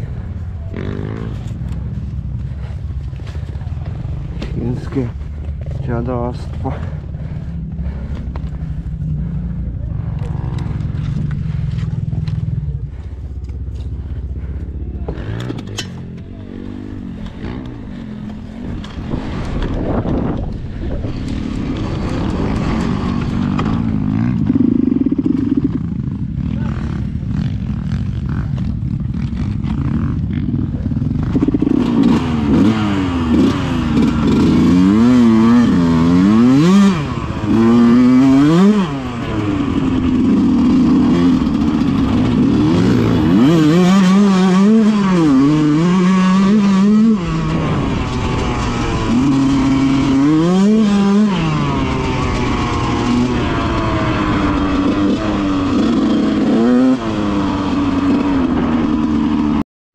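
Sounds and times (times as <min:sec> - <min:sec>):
dirt bike engine revving: 0:00.0 - 0:59.6.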